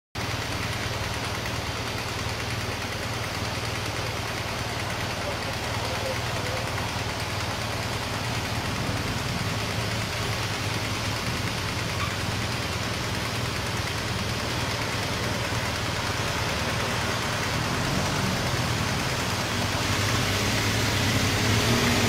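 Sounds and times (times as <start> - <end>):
low engine hum and road noise: 0.2 - 22.0.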